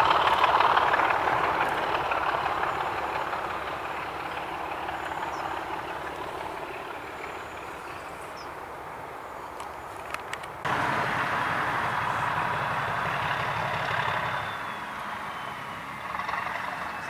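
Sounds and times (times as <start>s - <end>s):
diesel train running: 0.0s - 17.0s.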